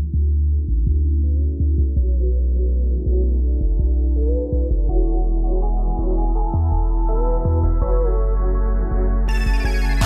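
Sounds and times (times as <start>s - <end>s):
ambient droning music: 0.0s - 10.0s.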